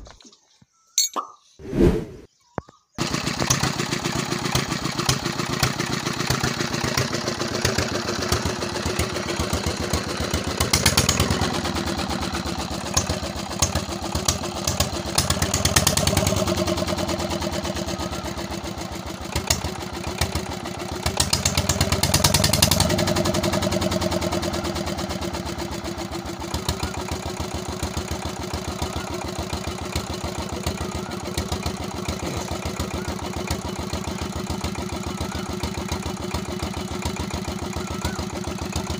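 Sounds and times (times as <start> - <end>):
diesel engine running: 3.1 - 38.9.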